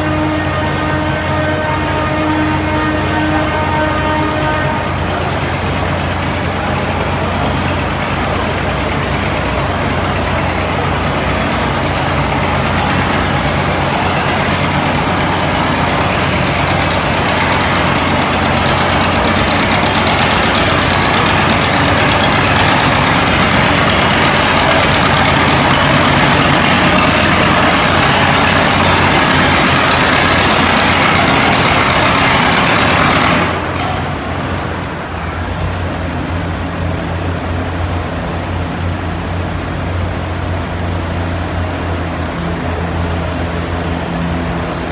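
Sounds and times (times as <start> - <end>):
tractor engine under load: 0.0 - 44.9.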